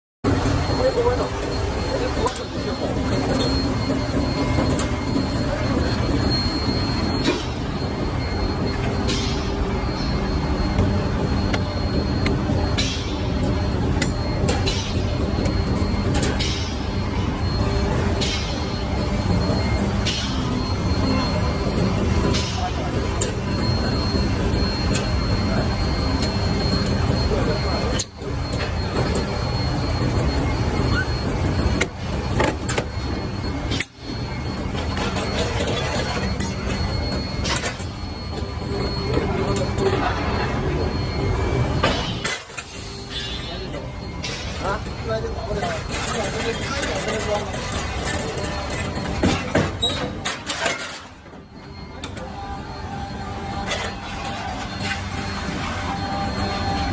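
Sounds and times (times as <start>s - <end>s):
factory machinery rumbling: 0.3s - 56.9s.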